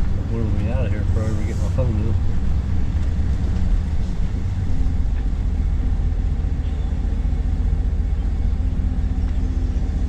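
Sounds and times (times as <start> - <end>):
road noise: 0.0 - 10.0
vehicle engine: 0.0 - 10.0.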